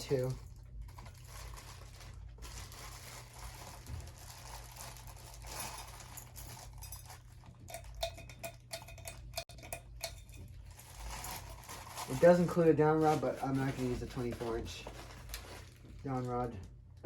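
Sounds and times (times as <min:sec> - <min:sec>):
rustling of packaging: 0:00.0 - 0:07.6, 0:10.4 - 0:16.8.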